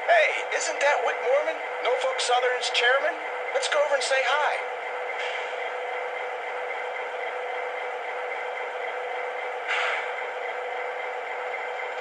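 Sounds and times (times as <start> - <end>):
diesel engine sound through small speaker: 0.0 - 12.0.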